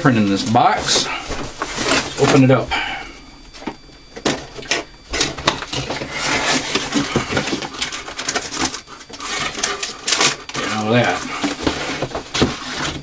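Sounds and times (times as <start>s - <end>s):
box rustling and scraping: 0.3s - 2.7s, 3.5s - 13.0s.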